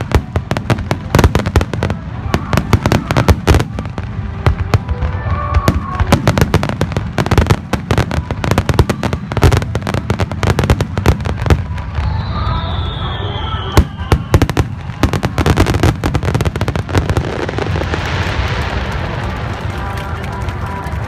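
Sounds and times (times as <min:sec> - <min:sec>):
continuous low rumble: 0:00.0 - 0:13.0, 0:13.9 - 0:21.0
fireworks cracking: 0:00.0 - 0:21.0.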